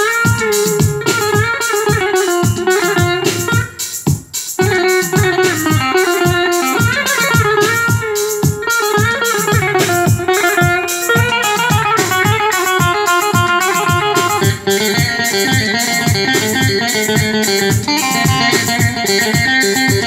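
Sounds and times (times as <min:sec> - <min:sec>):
drum beat: 0:00.0 - 0:20.0
plucked-string keyboard melody: 0:00.0 - 0:20.0.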